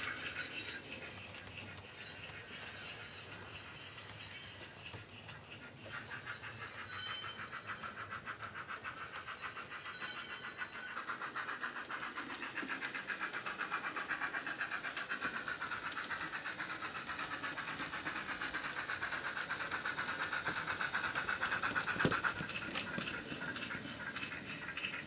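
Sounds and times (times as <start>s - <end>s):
model steam engine chuffs: 0.0s - 25.0s.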